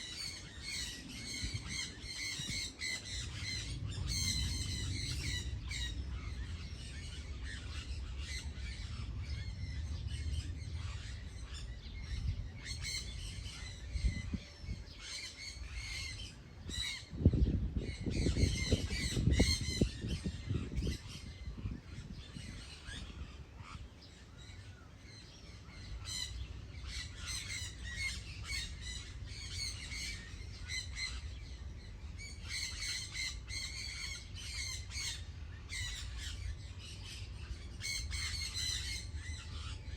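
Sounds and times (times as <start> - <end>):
birds calling rapidly: 0.0 - 39.9.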